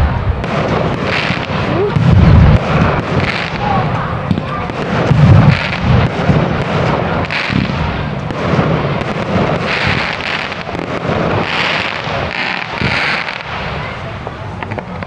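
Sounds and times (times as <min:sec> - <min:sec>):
firework booms: 0:00.0 - 0:15.0
fireworks crackling and hissing: 0:00.0 - 0:15.0.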